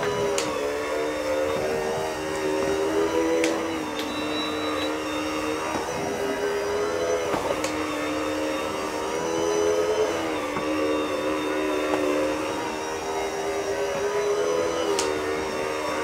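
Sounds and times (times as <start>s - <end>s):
spin mop motor running: 0.0s - 16.0s.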